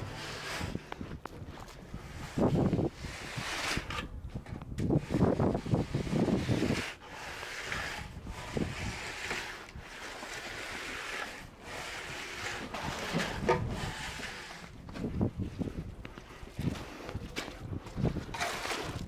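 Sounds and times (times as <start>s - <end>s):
tool scraping wet concrete: 0.0s - 15.8s, 16.8s - 19.0s.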